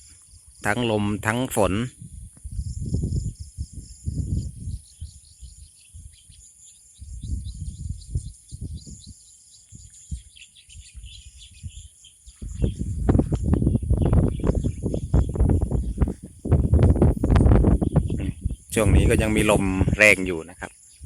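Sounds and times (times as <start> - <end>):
insects buzzing: 0.0 - 21.0
small birds chirping: 0.0 - 21.0
wind buffeting microphone: 0.9 - 20.4.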